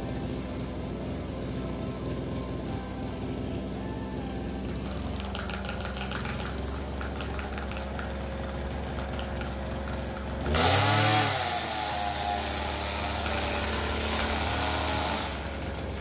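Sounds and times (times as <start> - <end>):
brush cutter engine revving: 0.0 - 16.0.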